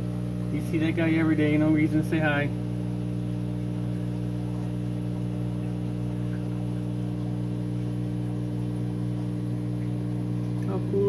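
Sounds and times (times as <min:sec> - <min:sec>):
aquarium pump humming: 0:00.0 - 0:11.0.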